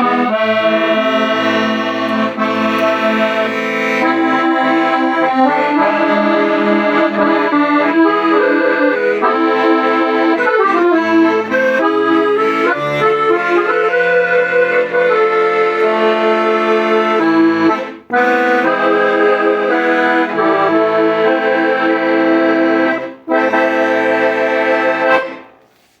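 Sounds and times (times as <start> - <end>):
accordion melody: 0.0 - 26.0.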